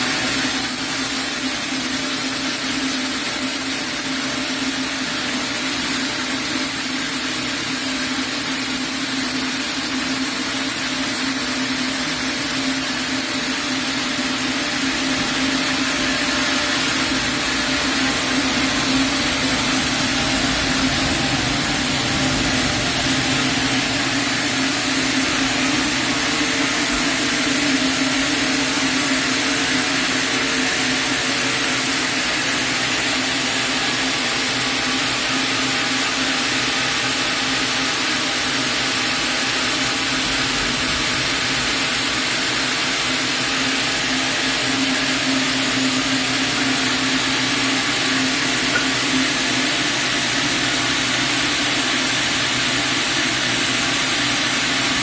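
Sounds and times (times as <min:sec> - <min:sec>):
sawmill saw running: 0:00.0 - 0:55.0.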